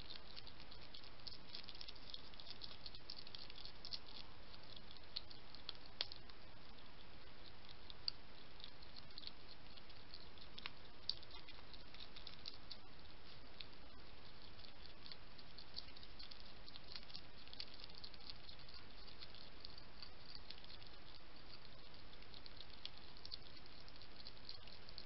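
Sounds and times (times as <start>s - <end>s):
hedgehog crunching dry food: 0.0s - 25.0s
steady background hiss: 0.0s - 25.0s.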